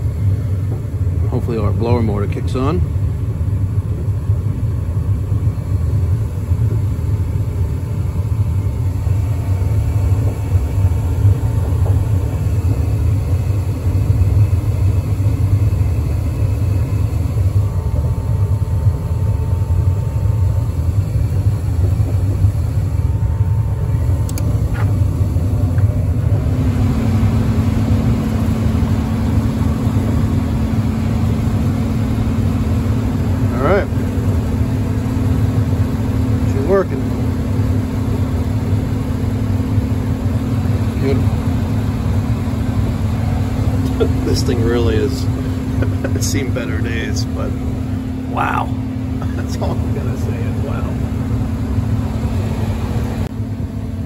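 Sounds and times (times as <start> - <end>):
blower motor hum: 0.0 - 54.0
gas furnace rumbling: 0.0 - 54.0.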